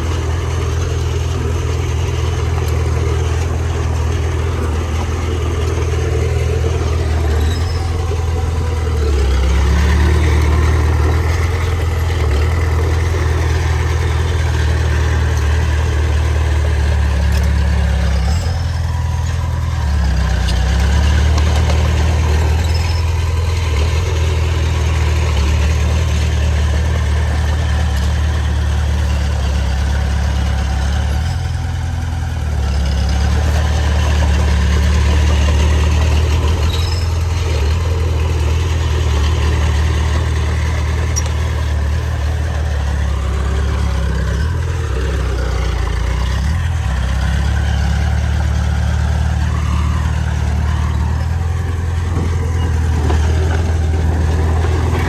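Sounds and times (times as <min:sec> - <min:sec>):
diesel machine engine running: 0:00.0 - 0:55.0.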